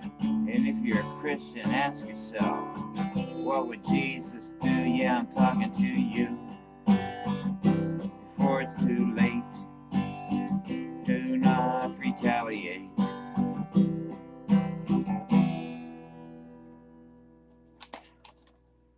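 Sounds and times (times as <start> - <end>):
acoustic guitar strumming: 0.0 - 17.7.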